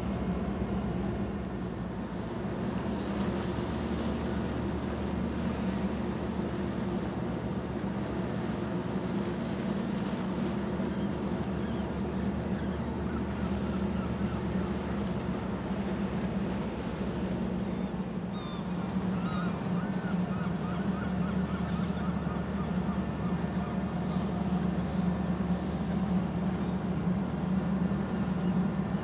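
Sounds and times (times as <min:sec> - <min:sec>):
ship engines humming: 0:00.0 - 0:29.0.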